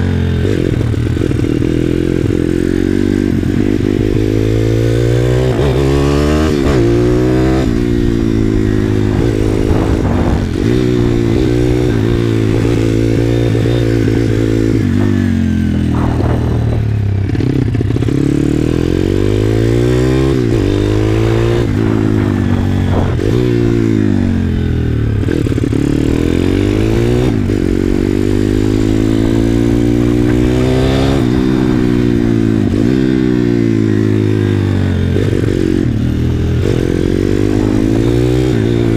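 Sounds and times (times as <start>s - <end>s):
small motorbike engine revving: 0.0s - 38.9s.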